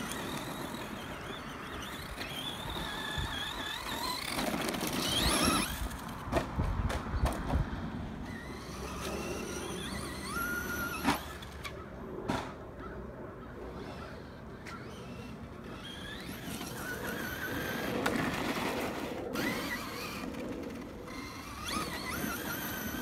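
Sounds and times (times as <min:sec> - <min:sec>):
electric motor whining: 0:00.0 - 0:06.2, 0:08.2 - 0:11.7, 0:13.8 - 0:23.0.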